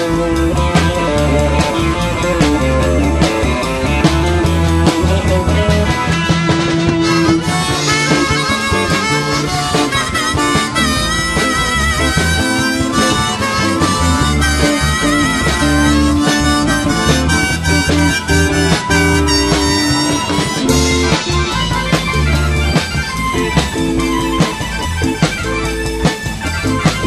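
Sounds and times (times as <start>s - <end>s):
lead guitar solo with vibrato: 0.0s - 27.0s
rock band playing: 0.0s - 27.0s.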